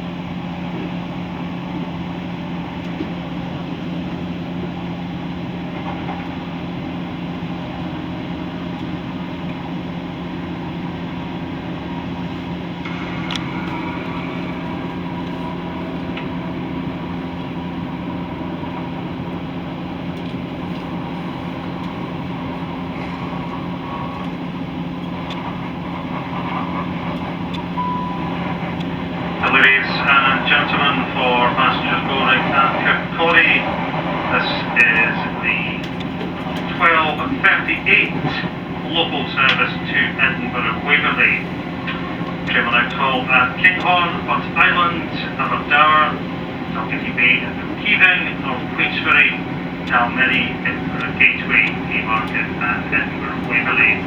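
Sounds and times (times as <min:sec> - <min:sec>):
train diesel engine droning: 0:00.0 - 0:54.0.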